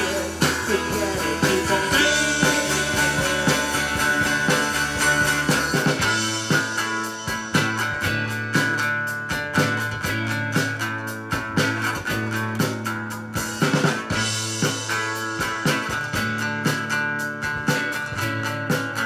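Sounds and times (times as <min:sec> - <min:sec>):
drum beat: 0:00.0 - 0:19.0
live rock band playing: 0:00.0 - 0:19.0.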